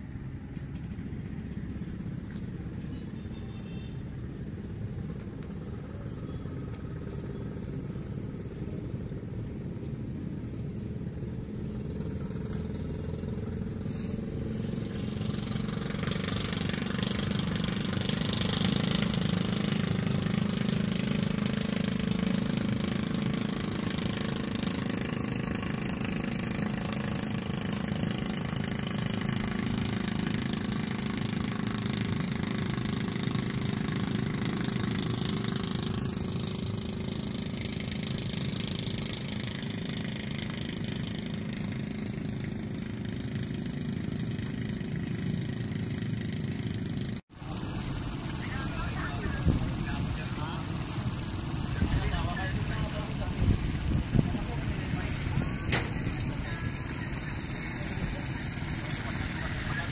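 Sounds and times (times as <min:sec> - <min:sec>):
motor engine running: 0:00.0 - 0:59.9.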